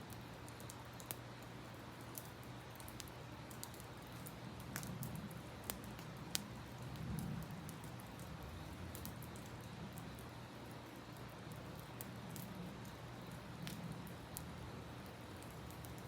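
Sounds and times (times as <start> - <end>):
burning wood popping: 0.0 - 16.0
campfire crackling: 0.0 - 16.0.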